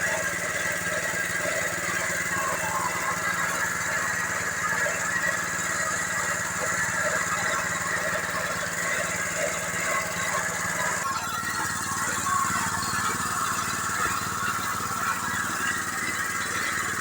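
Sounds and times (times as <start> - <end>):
grinding machine drone with hiss: 0.0 - 17.0.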